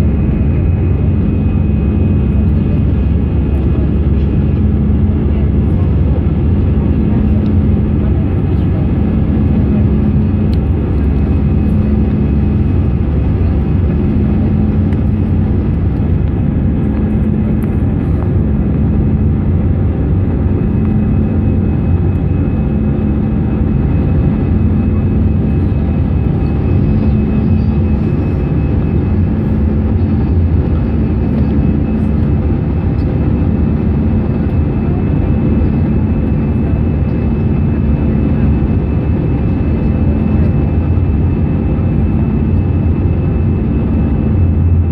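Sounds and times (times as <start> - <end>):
jet engine roar in cabin: 0.0 - 44.9.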